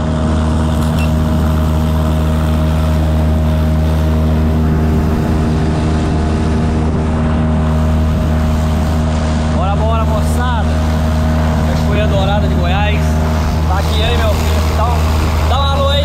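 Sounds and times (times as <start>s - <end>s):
boat motor humming: 0.0s - 16.0s
water rushing: 0.0s - 16.0s
wind: 0.0s - 16.0s.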